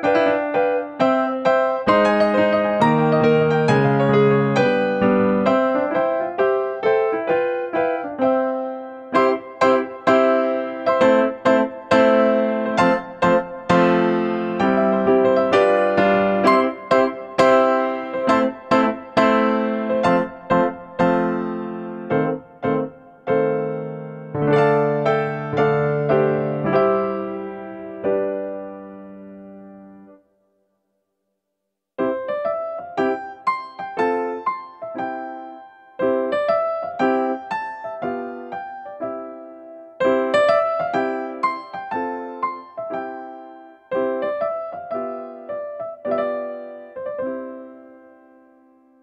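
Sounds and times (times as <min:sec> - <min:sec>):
electric piano music: 0:00.0 - 0:30.3, 0:32.0 - 0:49.0
keyboard melody: 0:00.0 - 0:30.4, 0:32.0 - 0:49.0.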